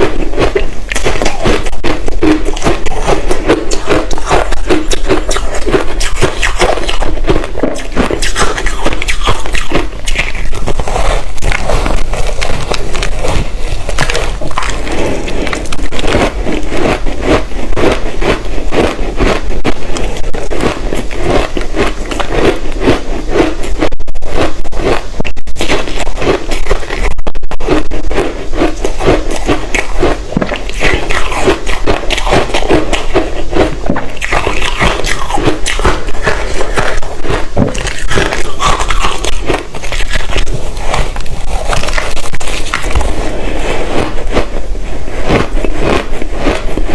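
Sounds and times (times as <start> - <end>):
ice being bitten and chewed: 0.0 - 46.9.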